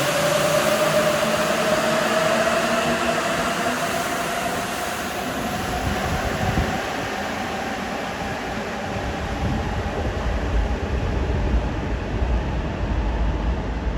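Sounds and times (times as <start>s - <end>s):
train low rumble: 0.0s - 13.9s
train rushing noise: 0.0s - 13.9s.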